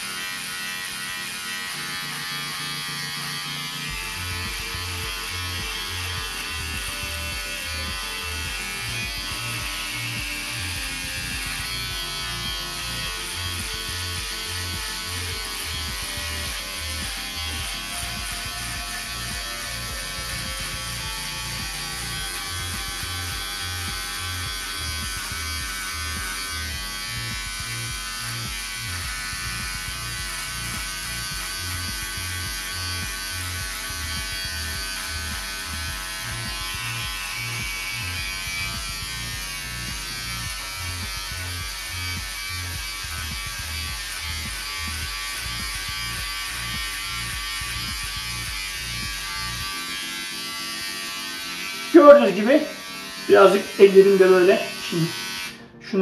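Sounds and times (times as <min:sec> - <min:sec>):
beard trimmer buzzing: 0:00.0 - 0:56.0.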